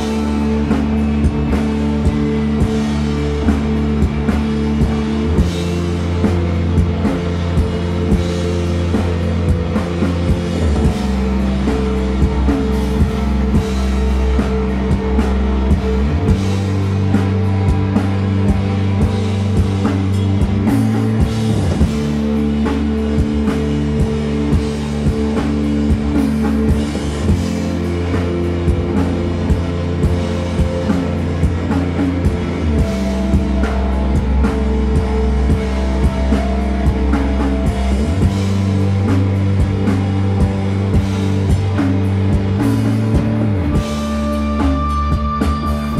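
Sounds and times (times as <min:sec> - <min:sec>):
drum kit beat: 0:00.0 - 0:45.9
electric bass: 0:00.0 - 0:45.9
electric guitar: 0:00.0 - 0:45.9.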